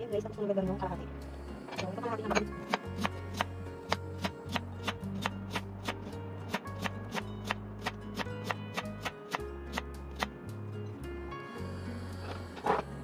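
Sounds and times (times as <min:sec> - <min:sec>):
background music with low notes: 0:00.0 - 0:13.0.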